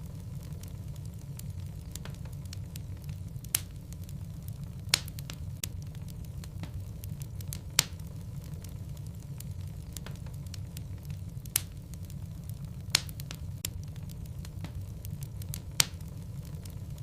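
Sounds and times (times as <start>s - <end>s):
logs crackling in fireplace: 0.0s - 17.0s
steady low rumble: 0.0s - 17.0s
sharp fire pops: 0.1s - 17.0s.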